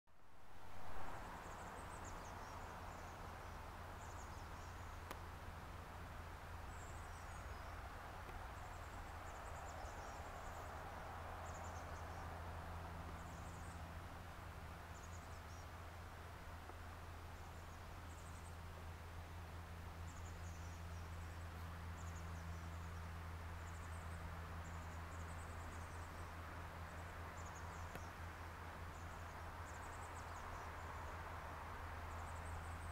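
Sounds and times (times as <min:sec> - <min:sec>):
low hum and hiss: 0:00.1 - 0:32.9.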